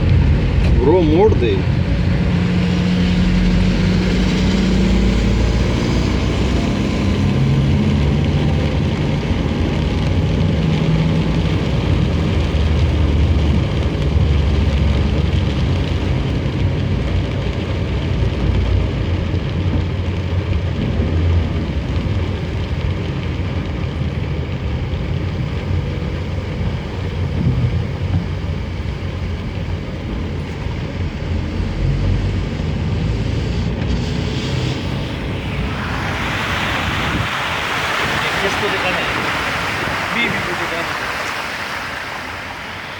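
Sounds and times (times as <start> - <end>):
car engine and tyres on wet road: 0.0 - 42.9
rain and spray hiss: 0.0 - 42.9.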